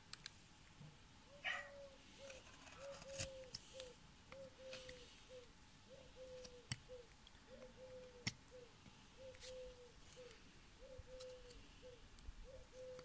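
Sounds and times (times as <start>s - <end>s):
faint bird call: 1.3s - 13.0s.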